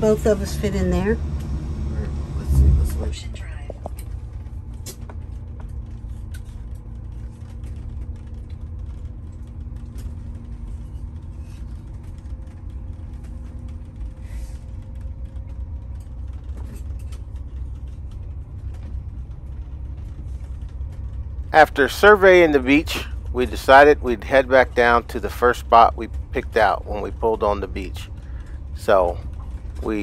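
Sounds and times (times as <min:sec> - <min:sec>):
vehicle cab low rumble: 0:00.0 - 0:30.0
small rattles and clicks: 0:02.9 - 0:30.0.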